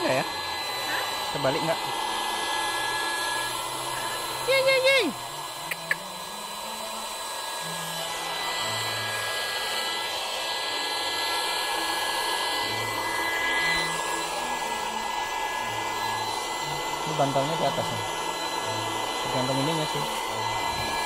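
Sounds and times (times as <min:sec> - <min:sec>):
electric air pump whirring: 0:00.0 - 0:21.0.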